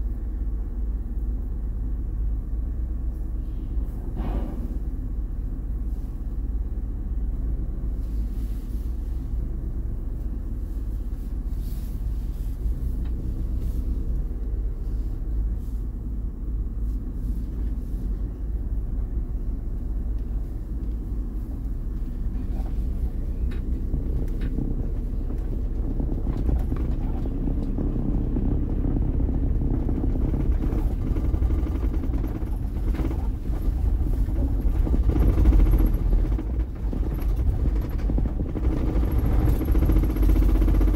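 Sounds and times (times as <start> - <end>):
van engine and tyres rumbling: 0.0 - 40.9.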